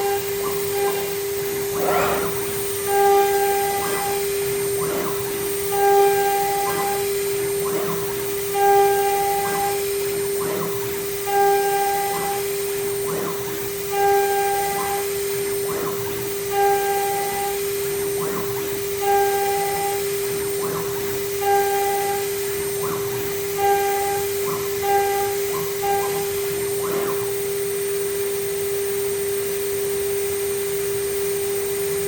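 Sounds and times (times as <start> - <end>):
router spindle high whine: 0.0 - 32.0.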